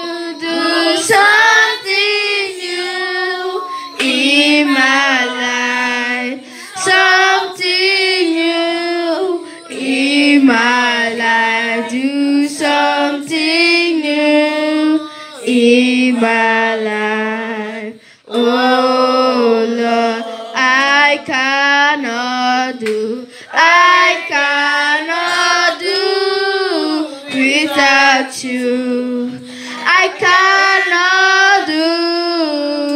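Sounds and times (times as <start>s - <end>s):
children singing along: 0.0s - 32.9s
girl singing into a microphone: 0.0s - 32.9s.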